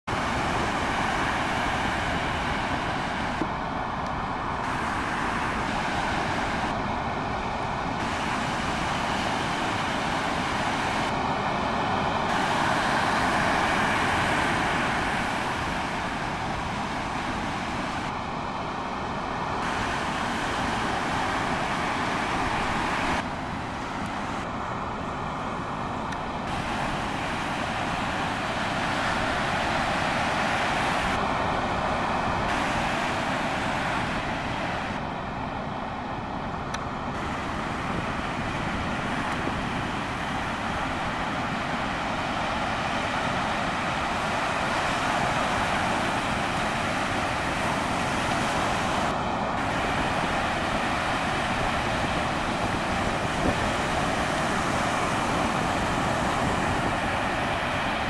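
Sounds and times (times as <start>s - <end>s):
ocean surf breaking: 0.1s - 58.0s.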